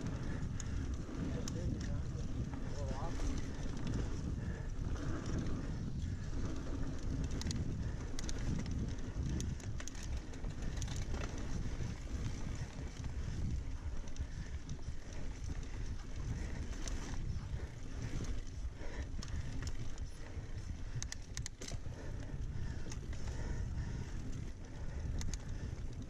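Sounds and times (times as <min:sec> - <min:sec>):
bike clicks and rattles: 0:00.0 - 0:26.0
bike tyre rumble: 0:00.0 - 0:26.0
wind buffeting microphone: 0:00.0 - 0:26.0.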